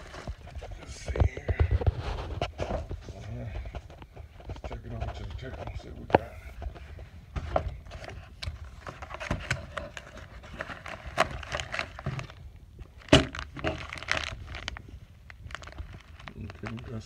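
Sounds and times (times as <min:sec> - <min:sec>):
packaging rustling: 0:00.0 - 0:06.0, 0:06.6 - 0:17.0.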